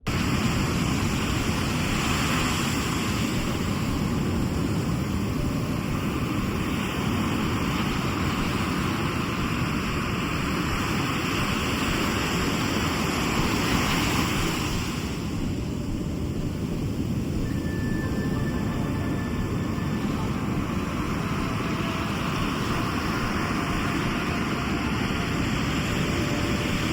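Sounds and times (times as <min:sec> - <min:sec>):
sea surf washing ashore: 0:00.0 - 0:26.9
wind rumble on microphone: 0:00.0 - 0:26.9.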